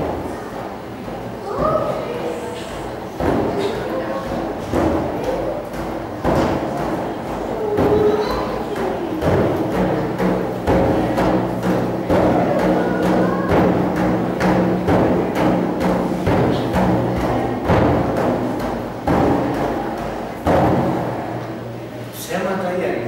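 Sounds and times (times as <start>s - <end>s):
frame drums beating: 0.0s - 23.0s.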